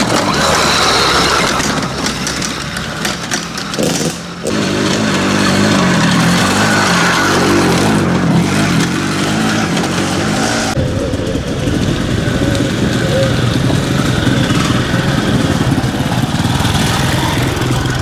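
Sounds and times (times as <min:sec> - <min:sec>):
off-road motorcycle engine revving: 0:00.0 - 0:18.0.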